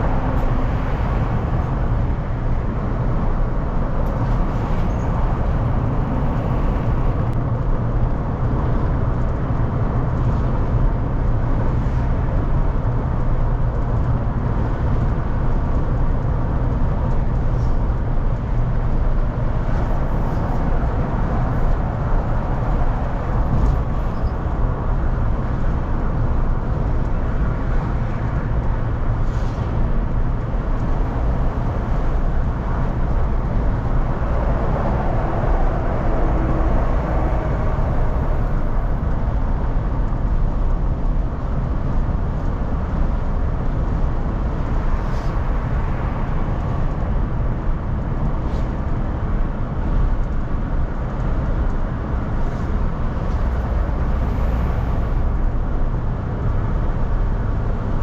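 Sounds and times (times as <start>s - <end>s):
car engine hum: 0.0s - 58.0s
tyre and road rumble: 0.0s - 58.0s.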